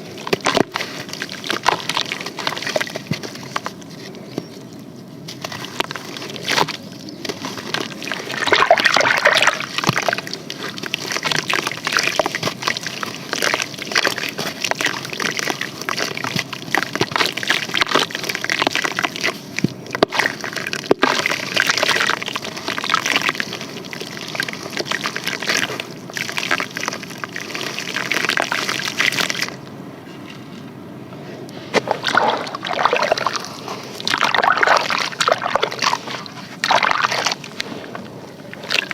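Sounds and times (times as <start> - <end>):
sand crumbling in water: 0.0 - 4.6, 5.3 - 29.6, 31.7 - 38.9
water sloshing with crackles: 0.0 - 38.9.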